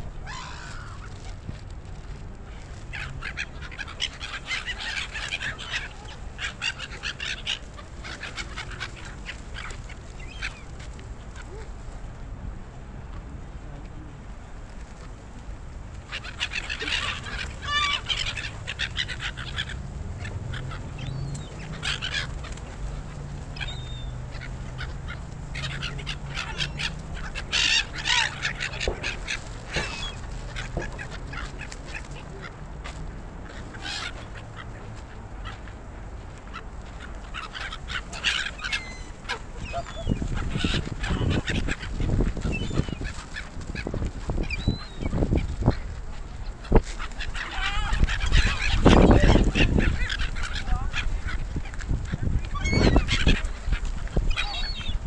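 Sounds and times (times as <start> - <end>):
gulls calling: 0.0 - 1.6, 2.4 - 11.7, 16.0 - 35.8, 36.4 - 55.0
wind rumble on microphone: 0.0 - 55.0.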